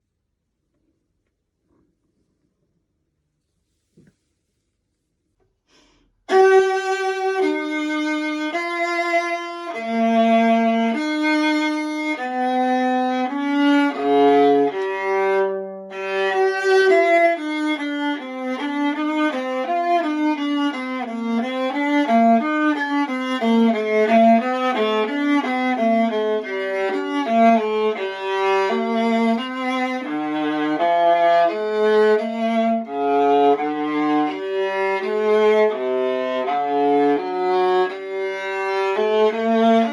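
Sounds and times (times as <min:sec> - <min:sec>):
bowed viola solo: 0:06.3 - 0:39.9.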